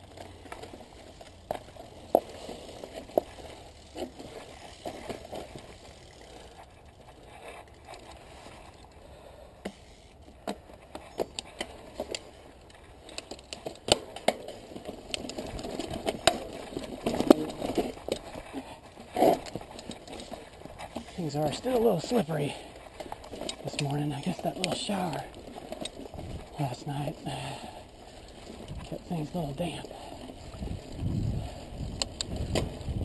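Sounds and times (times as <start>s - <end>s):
bike rattling over rocks: 0.0s - 9.3s, 10.2s - 33.0s.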